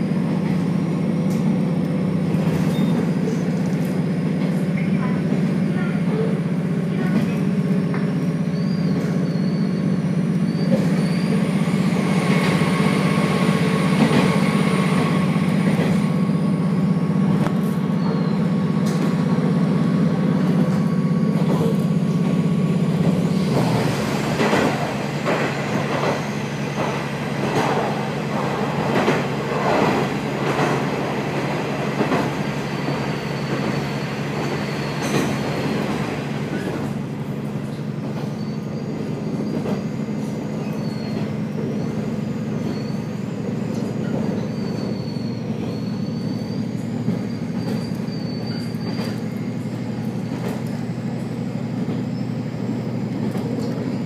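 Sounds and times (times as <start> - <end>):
rolling track noise: 0.0 - 54.0.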